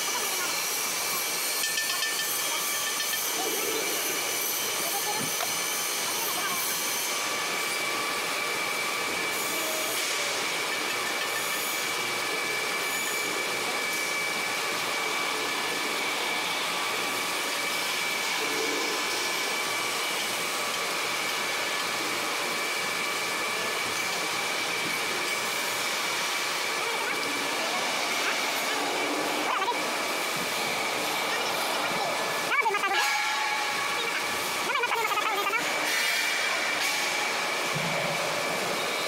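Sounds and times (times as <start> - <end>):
high machine whine: 0.0 - 39.0.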